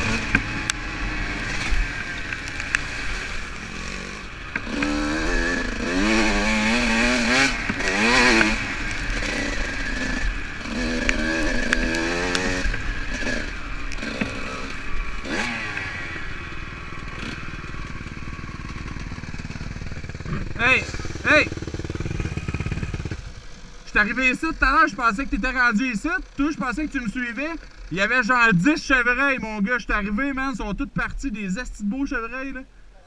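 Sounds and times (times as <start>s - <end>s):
dirt bike engine revving: 0.0s - 32.6s.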